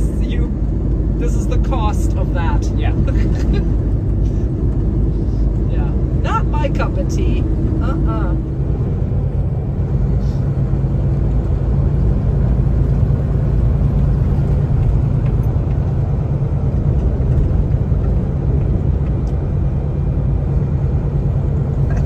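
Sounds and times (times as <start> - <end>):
truck engine and tyre drone: 0.0 - 22.0.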